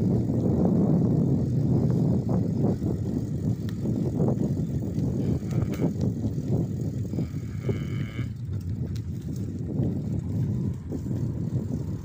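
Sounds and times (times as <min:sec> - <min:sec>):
bicycle tyre rumble: 0:00.0 - 0:12.0
wind buffeting microphone: 0:00.0 - 0:12.0.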